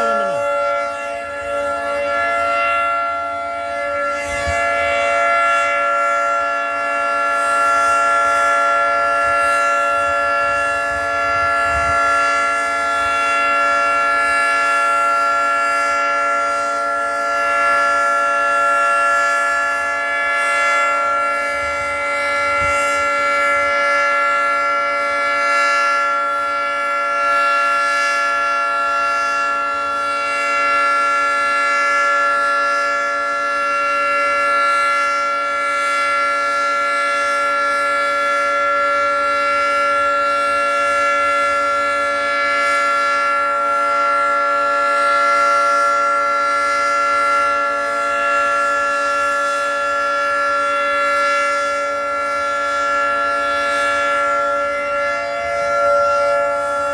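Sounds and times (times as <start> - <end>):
tornado siren three-tone chord: 0.0 - 56.9.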